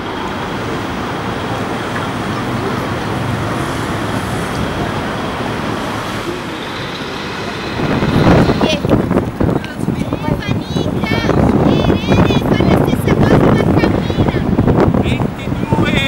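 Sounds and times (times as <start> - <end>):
faint voices: 0.0 - 16.0
road traffic rumble: 0.0 - 16.0.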